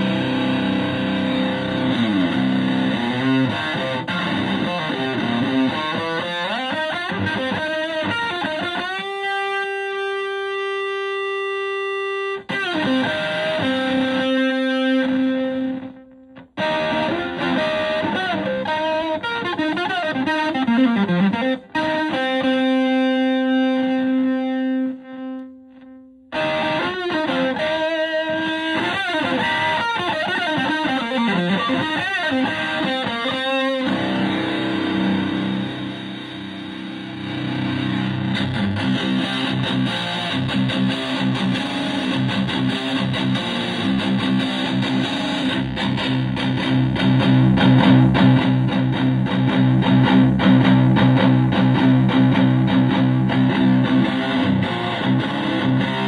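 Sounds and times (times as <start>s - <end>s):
fuzz electric guitar lead: 0.0s - 56.0s.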